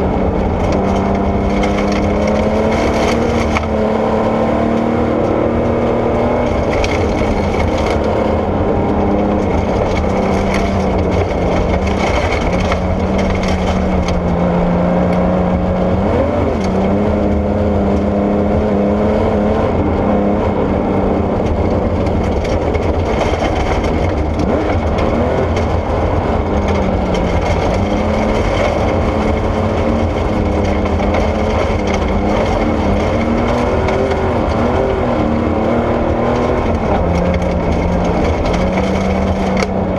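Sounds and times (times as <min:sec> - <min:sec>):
rally car engine running hard: 0:00.0 - 0:39.9
tyres rumbling on gravel: 0:00.0 - 0:39.9.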